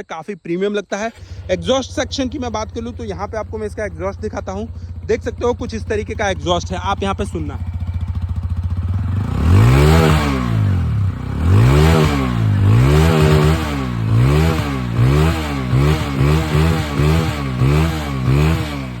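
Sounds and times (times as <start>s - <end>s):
motorcycle engine revving: 1.1s - 19.0s.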